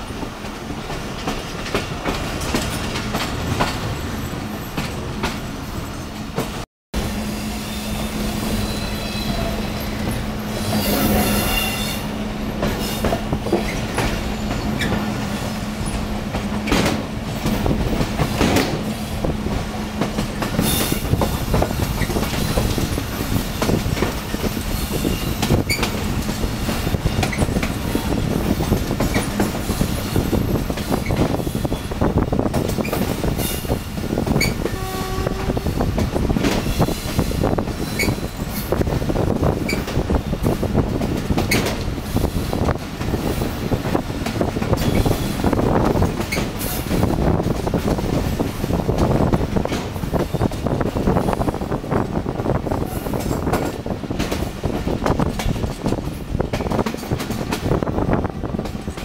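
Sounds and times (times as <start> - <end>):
train rumble and wind: 0.0 - 59.0.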